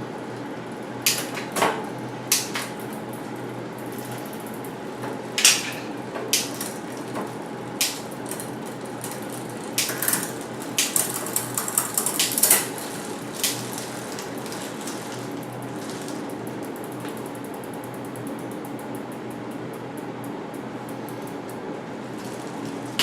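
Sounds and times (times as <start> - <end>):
fan-like hum: 0.0 - 23.0.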